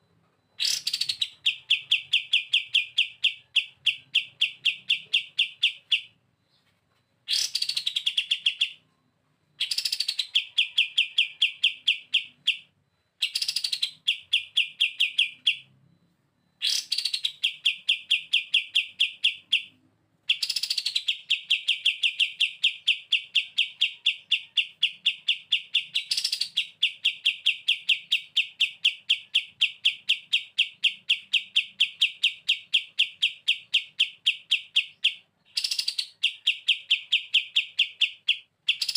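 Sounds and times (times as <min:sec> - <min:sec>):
bird singing rattling trill: 0:00.6 - 0:06.7, 0:07.3 - 0:08.9, 0:09.6 - 0:15.7, 0:16.6 - 0:38.9.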